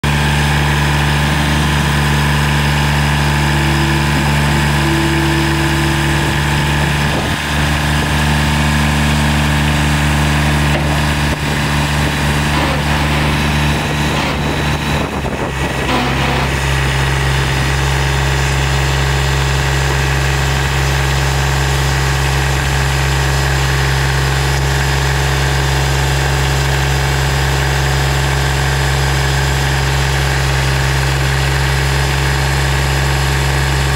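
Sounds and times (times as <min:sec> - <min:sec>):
diesel tractor engine idling: 0:00.0 - 0:33.9.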